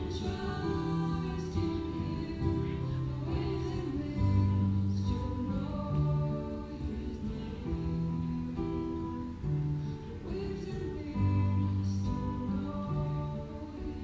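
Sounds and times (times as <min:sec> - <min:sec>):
acoustic guitar: 0:00.0 - 0:14.0
keyboard: 0:00.0 - 0:14.0
woman singing: 0:00.0 - 0:14.0.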